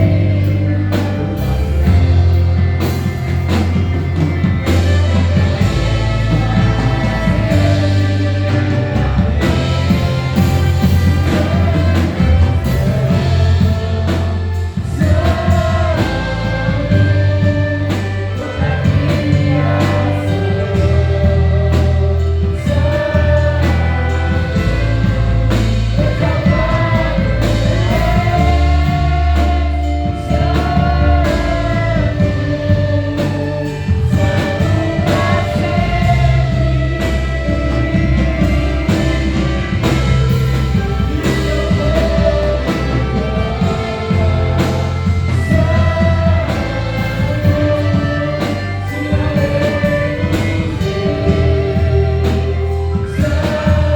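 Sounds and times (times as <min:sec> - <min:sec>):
bass line: 0:00.0 - 0:53.9
drums: 0:00.0 - 0:53.9
people singing gospel: 0:00.0 - 0:53.9.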